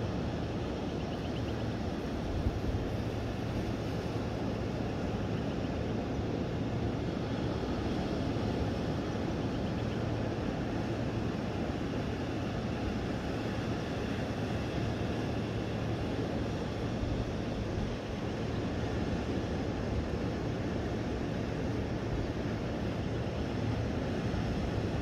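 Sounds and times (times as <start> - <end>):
constant low hum: 0.0 - 25.0.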